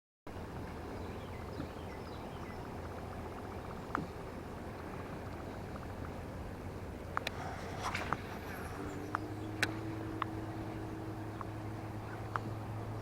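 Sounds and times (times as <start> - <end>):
low engine-like hum: 0.3 - 13.0.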